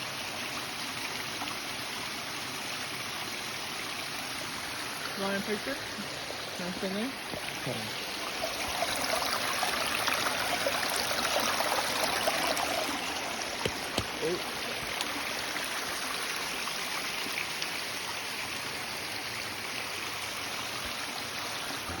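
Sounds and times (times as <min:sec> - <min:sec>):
creek rushing below waterfall: 0:00.0 - 0:22.0.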